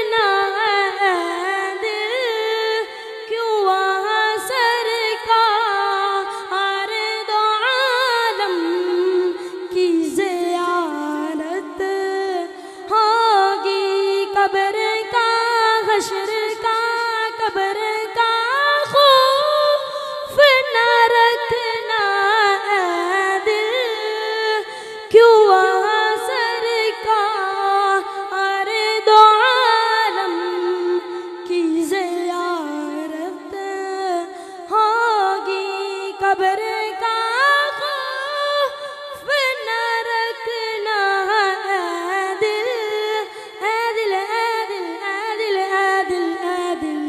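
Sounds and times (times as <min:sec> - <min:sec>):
boy singing unaccompanied: 0:00.0 - 0:34.3, 0:39.2 - 0:47.0.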